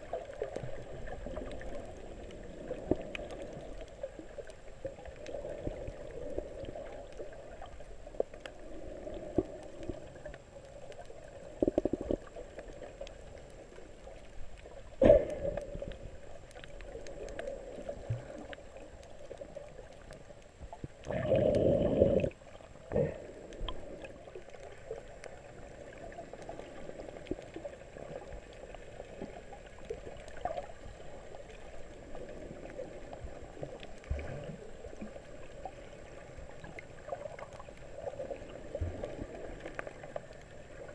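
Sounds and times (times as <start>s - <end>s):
muffled underwater water wash: 0.0s - 40.9s.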